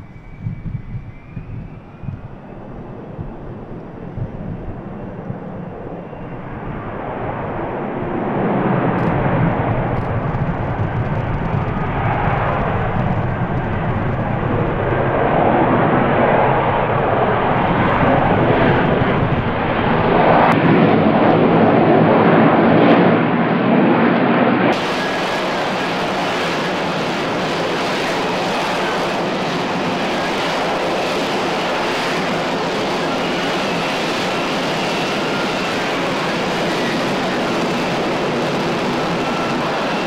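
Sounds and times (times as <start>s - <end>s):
jet engine roaring: 0.0s - 40.0s.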